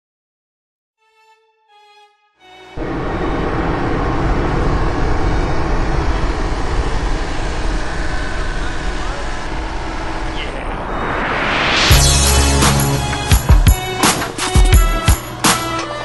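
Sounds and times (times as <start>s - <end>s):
excavator diesel engine droning: 2.7s - 16.0s.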